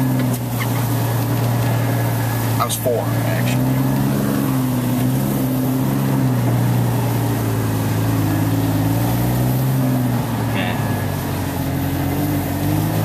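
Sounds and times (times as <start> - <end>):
engine droning at low revs: 0.0 - 13.0.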